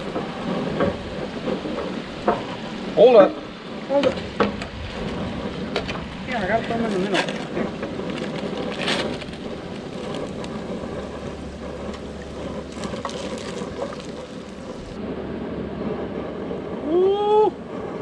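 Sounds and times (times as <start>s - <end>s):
hot oil sizzling and bubbling: 0.0s - 17.5s
low rumble: 0.0s - 18.0s.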